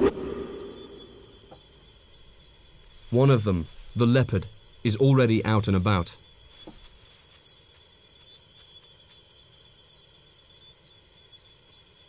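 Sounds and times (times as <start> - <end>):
crickets trilling and chirping: 0.0 - 12.0.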